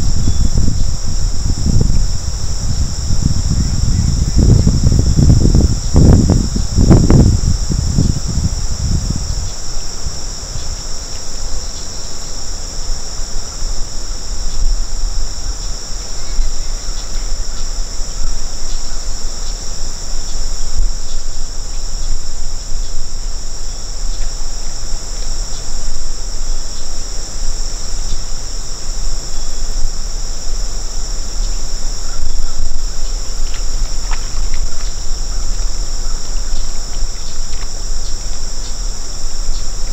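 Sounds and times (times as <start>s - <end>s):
insect chorus trilling: 0.0s - 39.9s
wind rumble on microphone: 0.0s - 39.9s.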